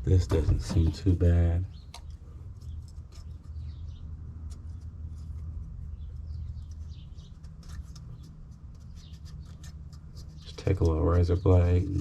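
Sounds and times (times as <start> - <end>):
steady low hum: 0.0 - 12.0
small birds chirping: 0.1 - 12.0.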